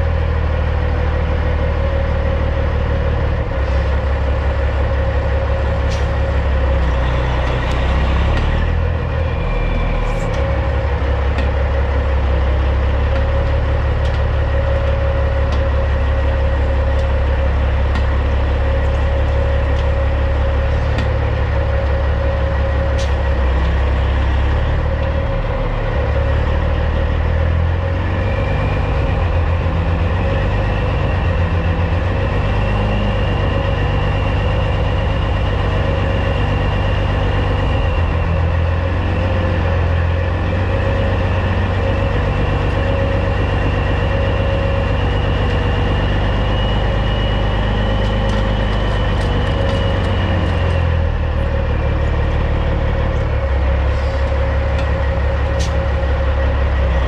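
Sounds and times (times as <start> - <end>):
truck diesel engine idling: 0.0 - 57.0.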